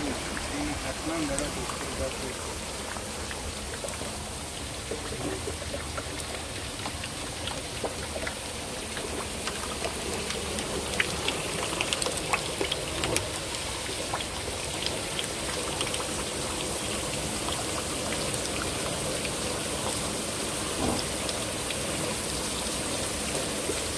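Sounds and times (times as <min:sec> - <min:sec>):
water dripping: 0:00.0 - 0:23.9
water splashing and trickling: 0:00.0 - 0:23.9.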